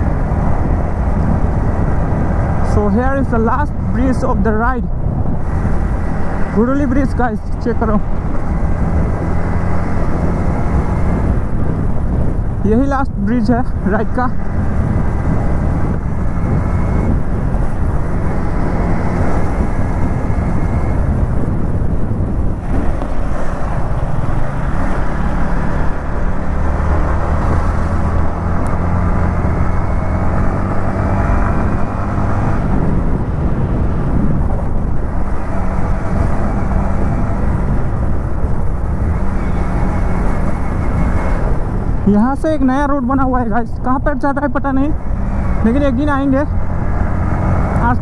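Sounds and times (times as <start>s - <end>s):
wind noise: 0.0s - 48.0s.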